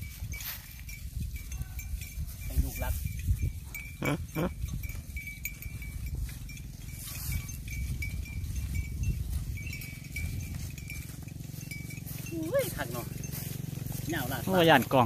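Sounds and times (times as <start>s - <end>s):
wind on microphone: 0.0s - 14.4s.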